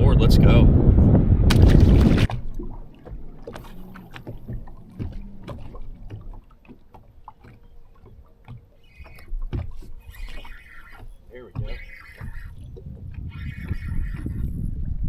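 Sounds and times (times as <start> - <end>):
water moving around hull: 0.0 - 15.0.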